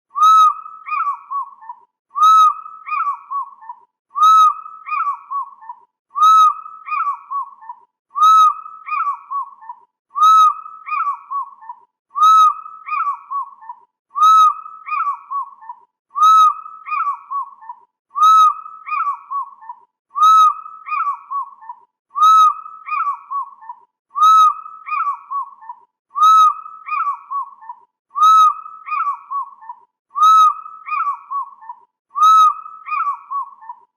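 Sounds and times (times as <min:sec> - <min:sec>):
fish eagle calling: 0:00.2 - 0:33.9.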